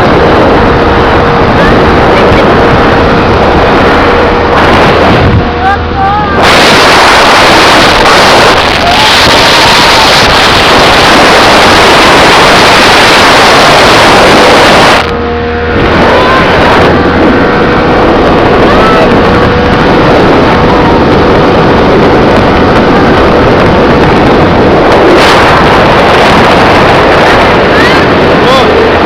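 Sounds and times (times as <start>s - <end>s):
motorboat engine: 0.0s - 29.0s
rushing water: 0.0s - 29.0s
wind noise on microphone: 0.0s - 29.0s.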